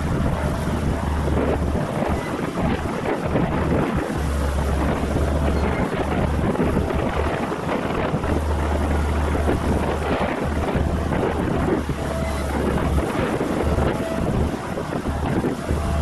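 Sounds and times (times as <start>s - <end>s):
distant roller engine running: 0.0s - 16.0s
wind buffeting microphone: 0.0s - 16.0s.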